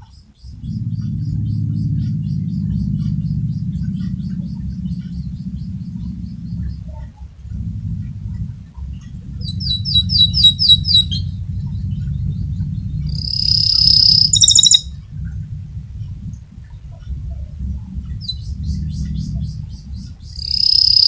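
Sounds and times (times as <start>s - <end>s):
canary singing: 0.0s - 21.0s
low rumble: 0.0s - 21.0s.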